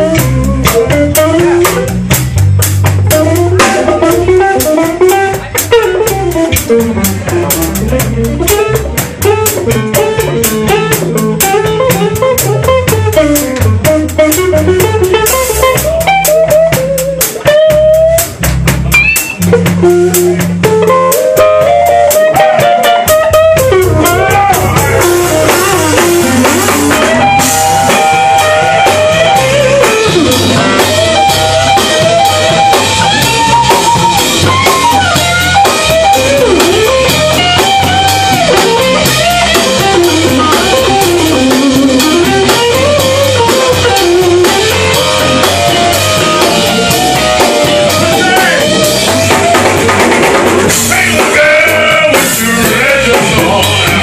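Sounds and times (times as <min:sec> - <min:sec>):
drum kit beat: 0:00.0 - 0:54.0
electric guitar lead: 0:00.0 - 0:54.0.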